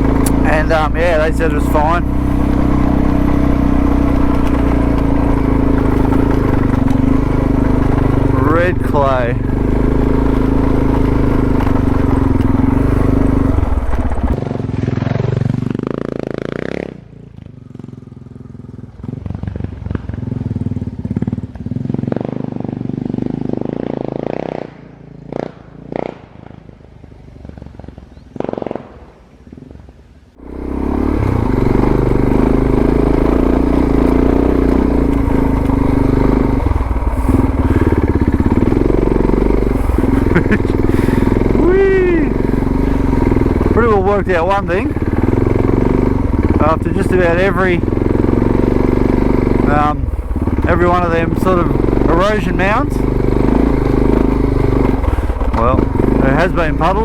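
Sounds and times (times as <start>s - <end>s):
motorcycle engine pulling uphill: 0.0s - 57.0s.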